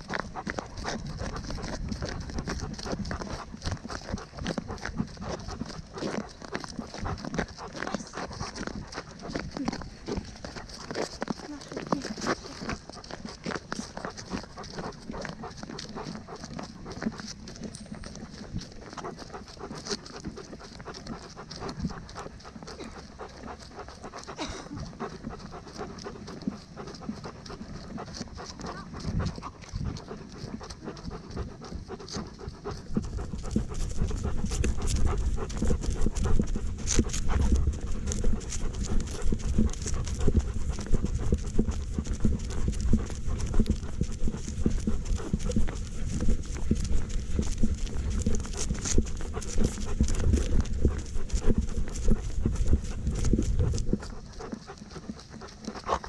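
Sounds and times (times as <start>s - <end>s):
dog panting: 0.0s - 56.0s
paw steps: 0.0s - 56.0s.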